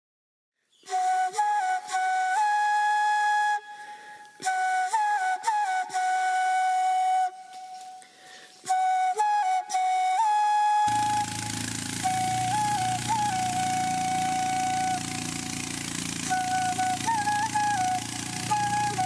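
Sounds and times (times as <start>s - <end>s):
flute playing slow melody: 0.8s - 19.0s.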